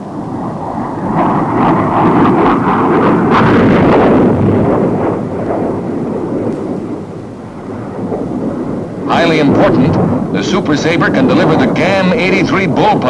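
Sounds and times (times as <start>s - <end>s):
bomb explosion rumbling blast: 0.0s - 13.0s.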